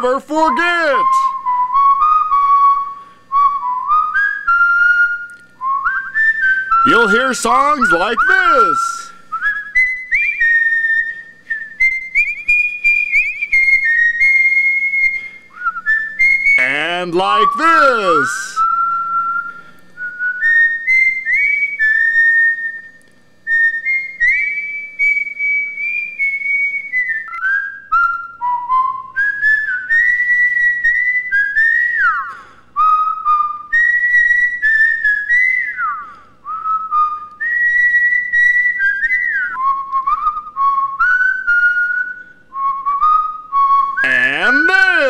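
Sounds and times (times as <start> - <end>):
person whistling a tune: 0.6 - 16.6, 17.2 - 22.9, 23.5 - 45.0.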